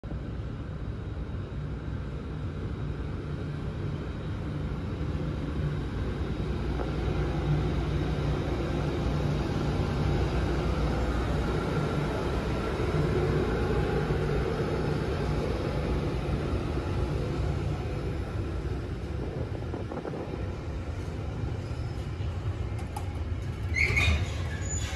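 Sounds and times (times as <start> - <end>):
wheels rumbling on rail: 0.1 - 24.9
electric locomotive passing: 0.6 - 24.9.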